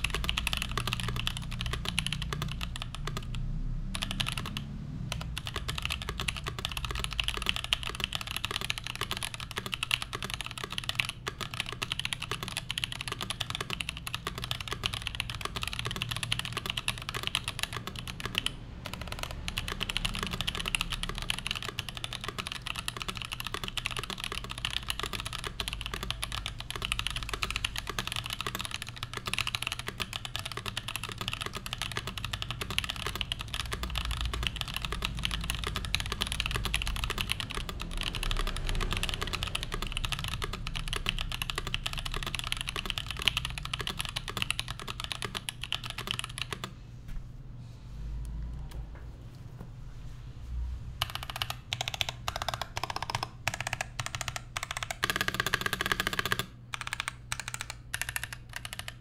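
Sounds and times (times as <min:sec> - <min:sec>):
fast mechanical keyboard typing: 0:00.0 - 0:46.8, 0:51.0 - 0:59.0.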